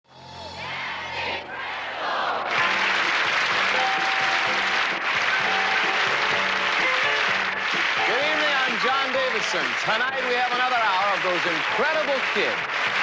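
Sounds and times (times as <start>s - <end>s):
music playing: 2.3s - 13.0s
studio audience applauding: 2.4s - 13.0s.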